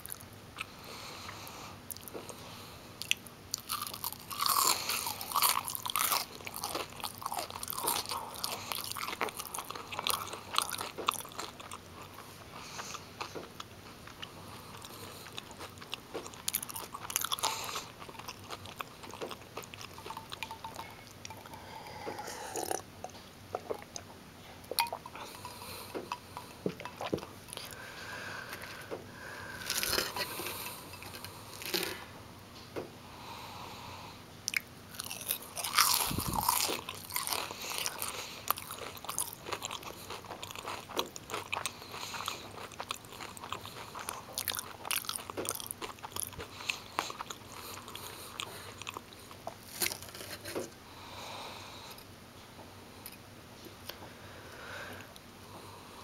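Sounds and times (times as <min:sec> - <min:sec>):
crunchy chewing: 0:03.0 - 0:24.1, 0:24.7 - 0:32.1, 0:34.5 - 0:52.1.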